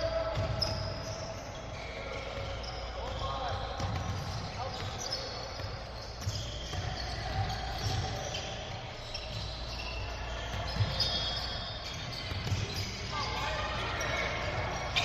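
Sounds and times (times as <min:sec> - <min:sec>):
basketballs bouncing on gym floor: 0:00.0 - 0:15.0
sneakers squeaking on court: 0:00.0 - 0:15.0.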